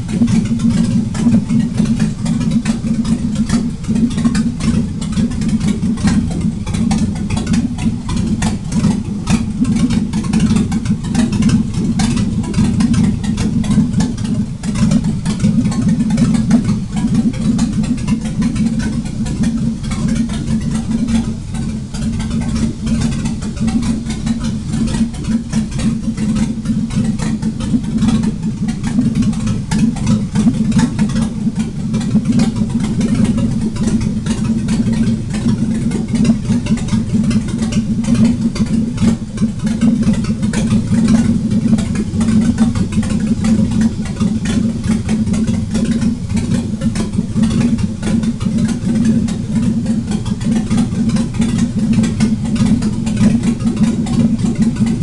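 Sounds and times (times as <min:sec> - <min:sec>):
engine idling loudly: 0:00.0 - 0:55.0.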